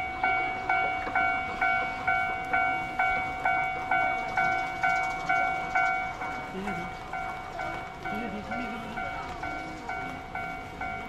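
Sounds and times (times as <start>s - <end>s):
railroad crossing bell ringing: 0.0s - 11.0s.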